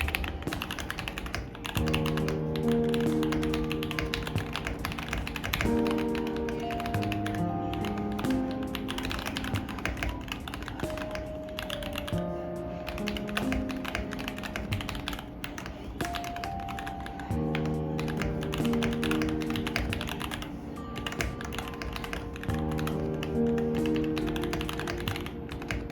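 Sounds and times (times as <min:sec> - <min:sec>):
background music with held notes: 0:00.0 - 0:25.9
mechanical keyboard typing: 0:00.0 - 0:25.9.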